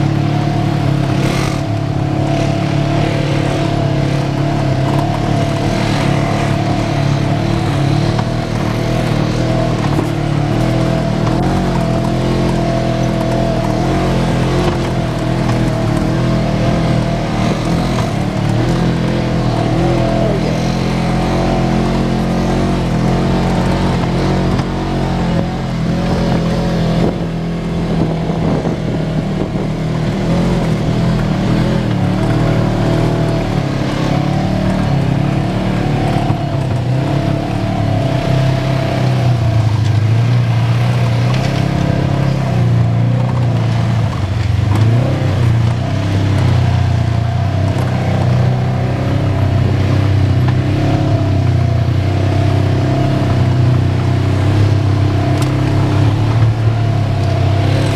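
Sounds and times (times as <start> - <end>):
utv engine running: 0.0 - 57.9.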